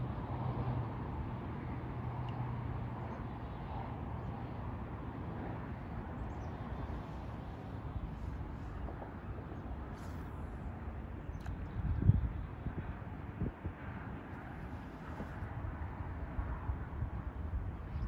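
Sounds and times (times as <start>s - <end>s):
low rush on open water: 0.0s - 18.0s.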